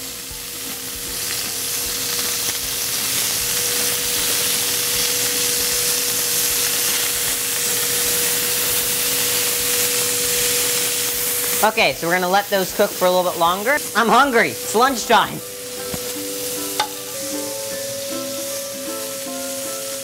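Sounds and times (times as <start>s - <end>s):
chicken sizzling in a grill pan: 0.0s - 20.0s.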